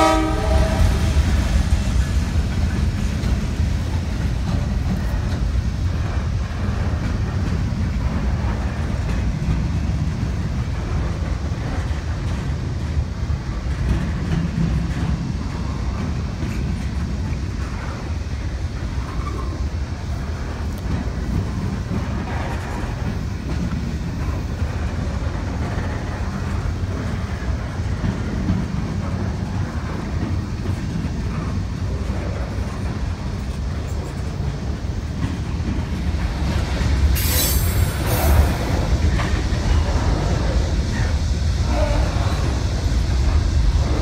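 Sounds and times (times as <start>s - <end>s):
freight car wheels rumbling: 0.0s - 44.0s
wheels clicking over rail joints: 0.0s - 44.0s.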